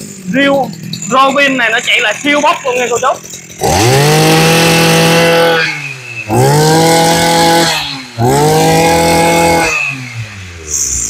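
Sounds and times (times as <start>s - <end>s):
brush cutter engine revving: 0.0s - 11.0s.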